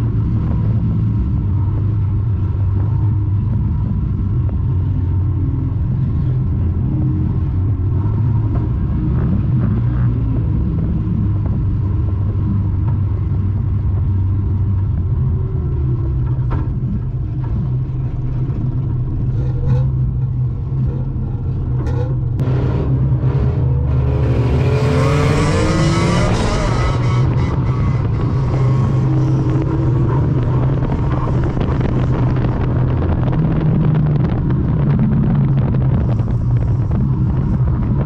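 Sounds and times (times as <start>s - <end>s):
car engine droning and revving: 0.0s - 38.0s.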